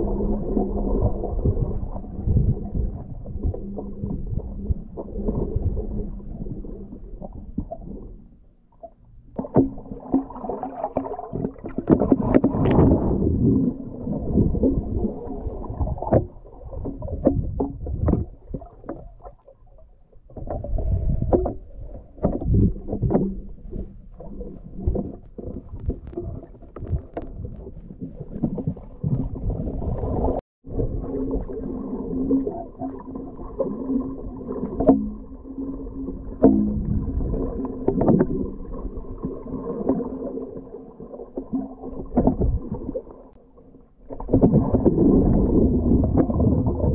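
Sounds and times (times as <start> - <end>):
underwater water movement: 0.0 - 46.9.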